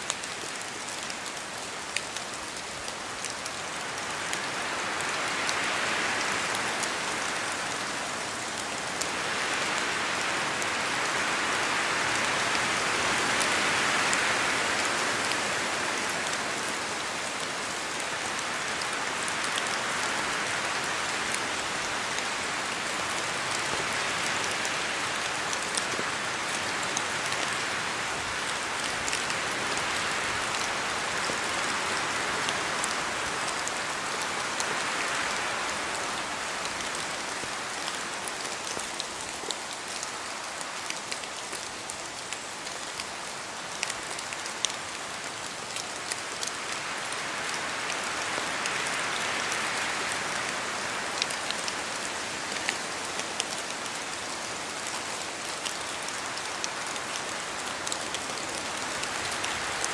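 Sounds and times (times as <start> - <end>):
steady rain hiss: 0.0 - 59.9
wind rushing through trees: 0.0 - 59.9.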